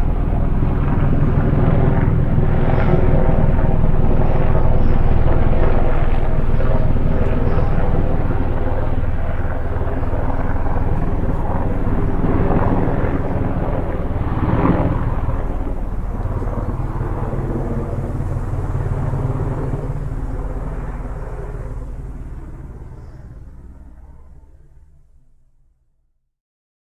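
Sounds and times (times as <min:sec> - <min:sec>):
helicopter rotor and engine: 0:00.0 - 0:25.2.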